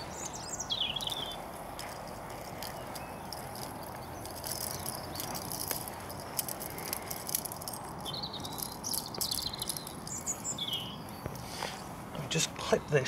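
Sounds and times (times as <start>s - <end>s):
footsteps on grass: 0.0s - 12.3s
light rustling: 0.0s - 12.5s
birds chirping: 0.0s - 13.0s.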